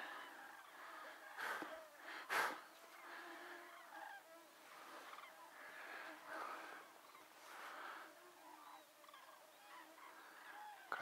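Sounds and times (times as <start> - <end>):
cranes trumpeting calls: 0.0 - 11.0.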